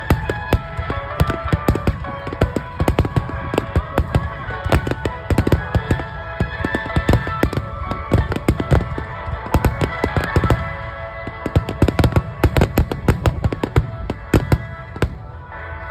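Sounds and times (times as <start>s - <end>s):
fireworks bursting: 0.0s - 15.9s
music playing: 0.0s - 15.9s.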